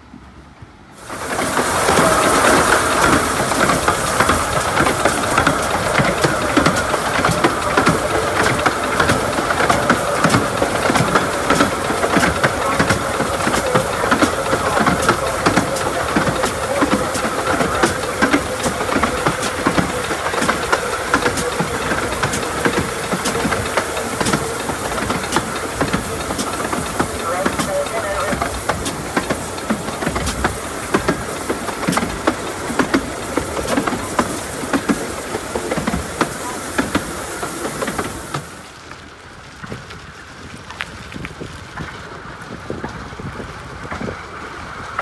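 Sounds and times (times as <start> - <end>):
wheels clicking over rail joints: 0.0 - 45.0
steam hissing: 0.9 - 38.8.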